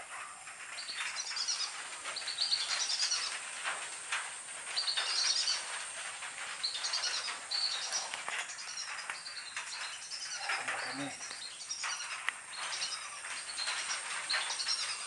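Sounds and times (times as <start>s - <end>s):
faint crackle: 0.0s - 15.0s.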